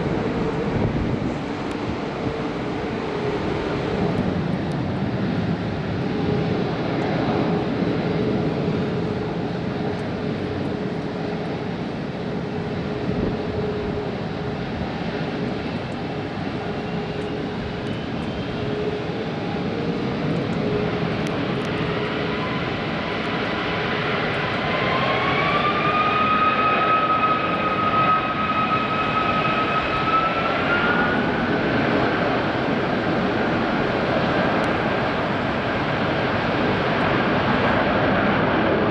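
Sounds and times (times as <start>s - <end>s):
rising engine whine: 0.0s - 38.2s
jet engines running: 0.0s - 38.9s.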